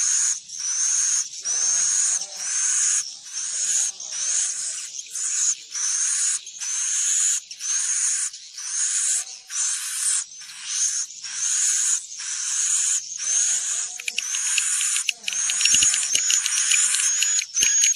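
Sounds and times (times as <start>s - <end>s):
swiftlet raspy twittering calls: 0.0s - 17.9s.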